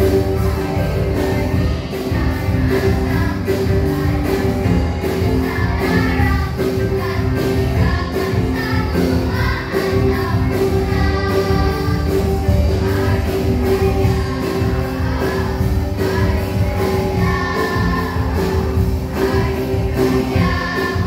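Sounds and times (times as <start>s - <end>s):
children's choir singing: 0.0s - 21.0s
music with steady beat: 0.0s - 21.0s.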